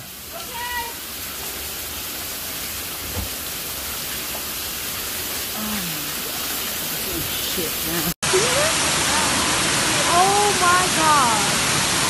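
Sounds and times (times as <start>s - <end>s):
water gushing from burst pipe: 0.0s - 12.0s.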